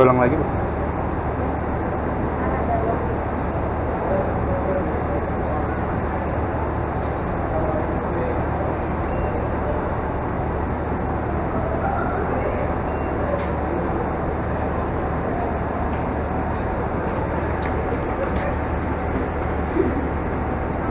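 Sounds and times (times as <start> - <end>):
steady rumbling background noise: 0.0 - 20.9.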